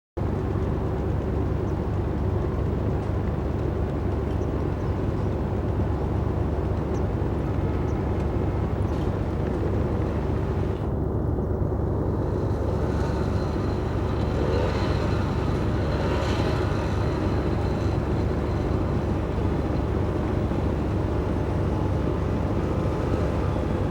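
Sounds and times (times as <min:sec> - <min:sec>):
speedboat engine droning: 0:00.2 - 0:23.9.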